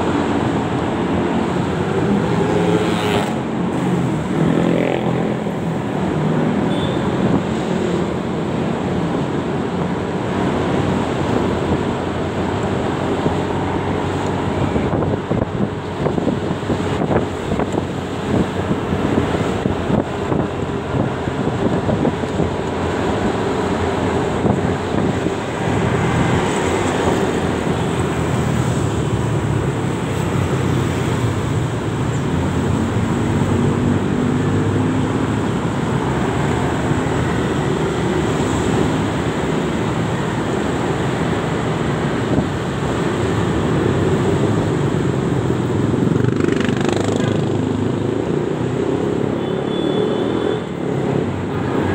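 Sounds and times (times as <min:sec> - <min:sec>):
wind rushing over microphone: 0:00.0 - 0:49.3
hum of motorcycle traffic: 0:00.0 - 0:51.9.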